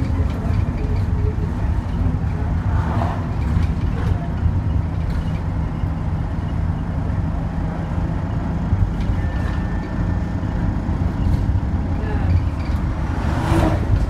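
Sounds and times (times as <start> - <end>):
bus engine: 0.0 - 14.0
road noise: 0.0 - 14.0.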